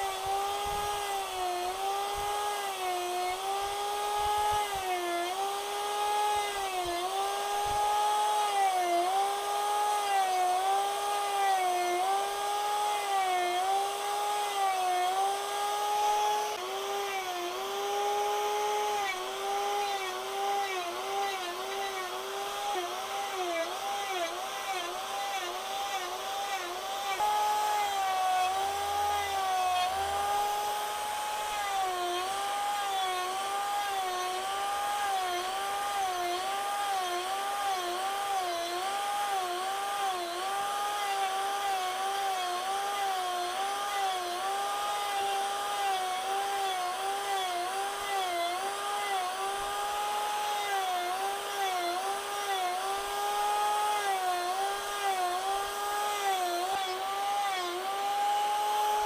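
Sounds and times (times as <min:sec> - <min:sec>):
angle grinder cutting wood: 0:00.0 - 0:59.0.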